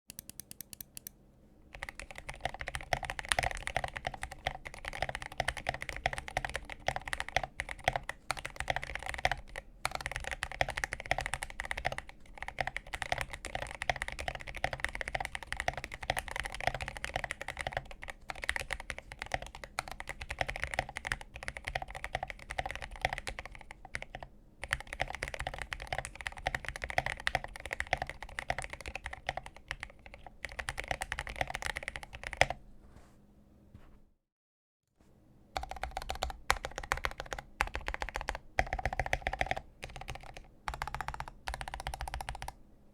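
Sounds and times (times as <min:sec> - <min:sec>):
typing on mechanical keyboard: 0:01.7 - 0:32.6, 0:35.6 - 0:42.6.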